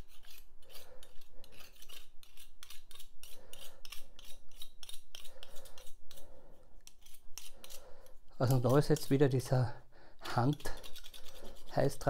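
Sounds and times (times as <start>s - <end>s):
metal blade being scraped clean: 0.0s - 9.2s, 10.3s - 12.0s.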